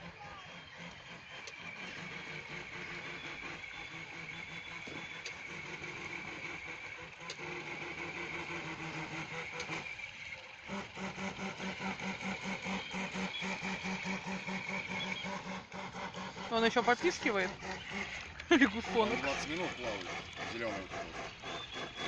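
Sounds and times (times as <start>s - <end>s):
small motor humming: 0.0s - 22.0s.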